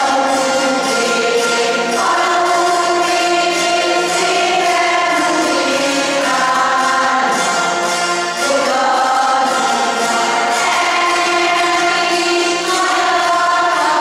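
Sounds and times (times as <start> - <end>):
choir of women singing: 0.0 - 14.0.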